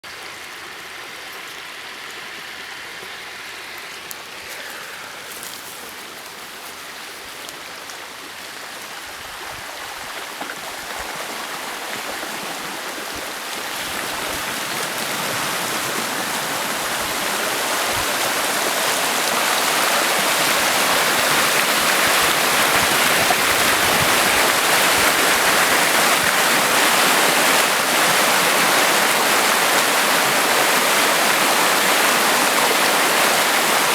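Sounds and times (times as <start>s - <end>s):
floodwater rushing down creek: 0.0s - 33.9s.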